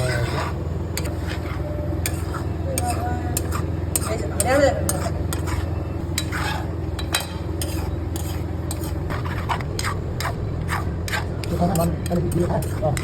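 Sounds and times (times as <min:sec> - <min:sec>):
spoon scraping metal pan: 0:00.0 - 0:13.0
steady low hum: 0:00.0 - 0:13.0.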